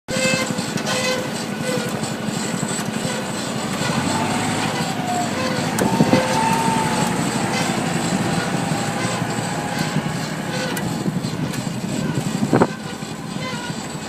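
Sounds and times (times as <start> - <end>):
grass-cutting machine running: 0.5 - 14.0.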